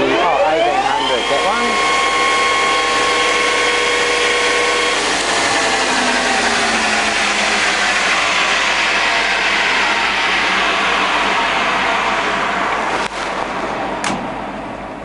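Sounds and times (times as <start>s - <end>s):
lathe running: 0.0s - 14.8s
lathe gear whine: 0.0s - 15.0s.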